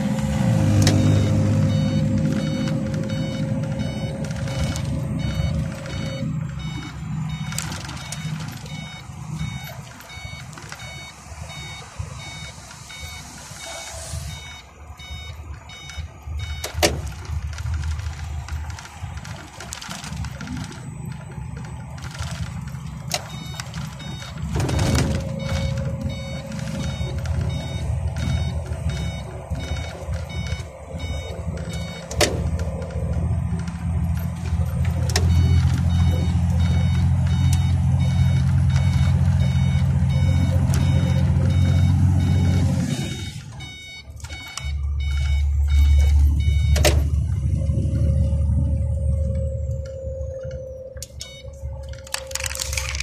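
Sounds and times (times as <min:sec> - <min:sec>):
truck engine and road rumble: 0:00.0 - 0:53.0
high-pitched electronic beeps: 0:00.4 - 0:17.6, 0:20.2 - 0:52.4.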